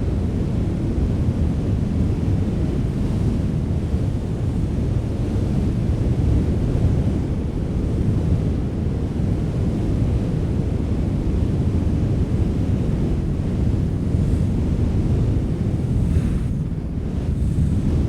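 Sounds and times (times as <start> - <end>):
steady wind rumble: 0.0 - 18.0.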